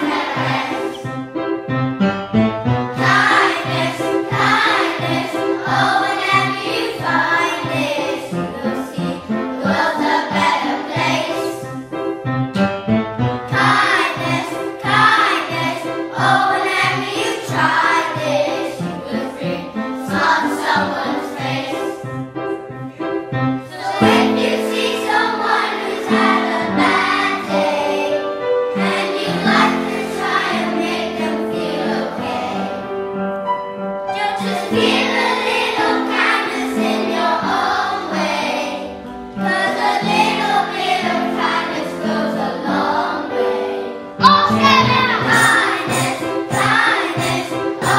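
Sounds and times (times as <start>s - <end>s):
children singing in unison: 0.0s - 1.1s, 2.9s - 11.7s, 13.5s - 22.1s, 23.6s - 33.0s, 34.1s - 47.9s
piano: 0.0s - 47.9s.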